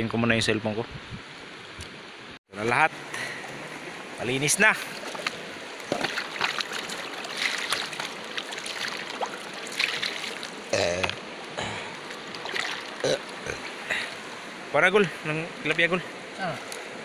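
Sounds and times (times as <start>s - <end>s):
river water flowing over rocks: 2.0s - 17.0s.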